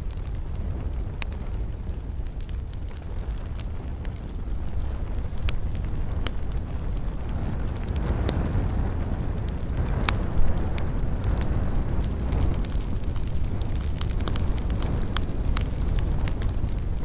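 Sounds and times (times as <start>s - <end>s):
fire crackles and pops: 0.0s - 17.0s
fire low rumble: 0.0s - 17.0s.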